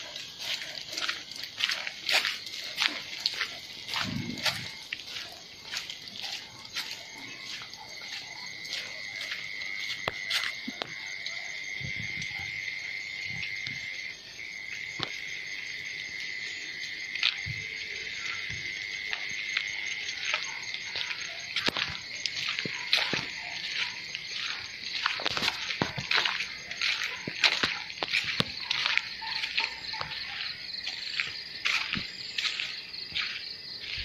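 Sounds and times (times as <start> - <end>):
frogs and insects calling: 0.0 - 34.0.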